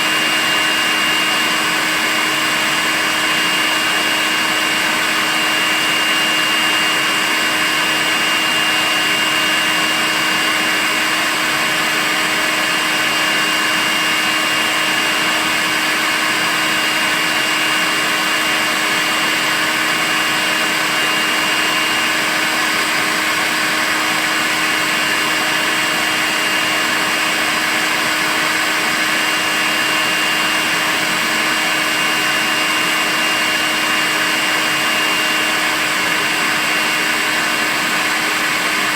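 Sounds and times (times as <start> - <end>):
stick vacuum cleaner running: 0.0 - 38.9.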